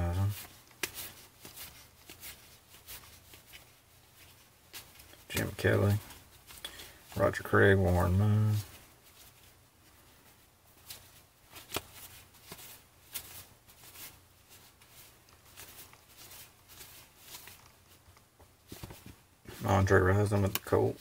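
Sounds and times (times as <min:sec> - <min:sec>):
trading cards flipped by hand: 0:00.2 - 0:06.9, 0:08.6 - 0:19.2.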